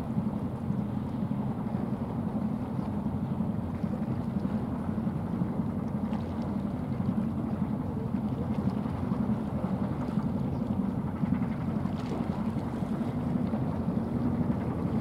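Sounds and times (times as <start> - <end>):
ship engine drone: 0.0 - 15.0
water washing along hull: 0.0 - 15.0.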